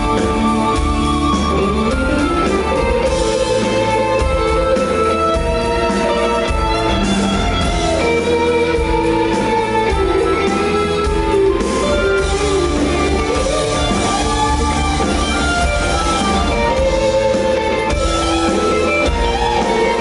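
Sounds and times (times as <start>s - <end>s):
bending lead guitar notes: 0.0s - 20.0s
rock band playing: 0.0s - 20.0s.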